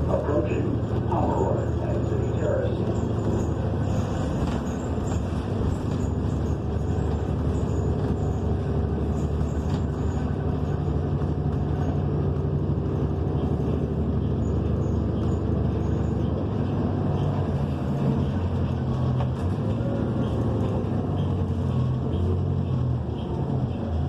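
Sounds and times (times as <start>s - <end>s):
bus engine humming: 0.0s - 24.0s
road noise: 0.0s - 24.0s.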